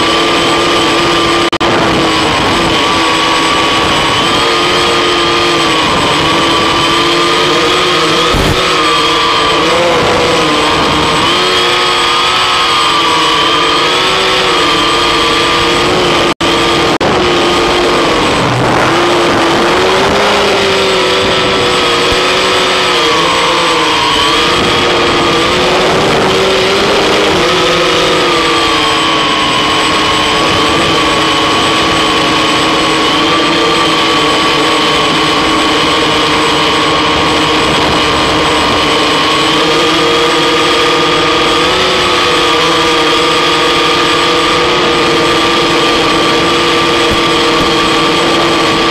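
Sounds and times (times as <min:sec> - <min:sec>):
multicopter motors whining: 0:00.0 - 0:48.9.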